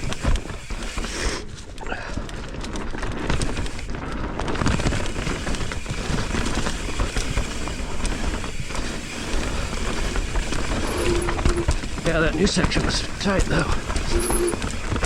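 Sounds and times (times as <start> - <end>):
bike rattles and knocks: 0.0 - 15.0
tyre and trail noise: 0.0 - 15.0.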